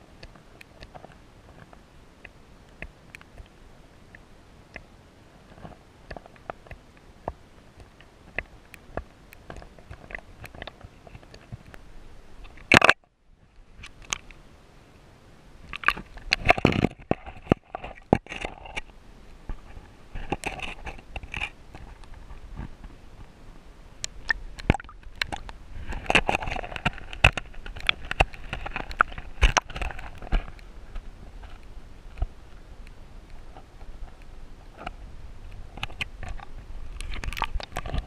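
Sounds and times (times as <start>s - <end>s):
underwater clicking and crackling: 0.0s - 14.4s, 15.6s - 23.3s, 24.0s - 38.0s.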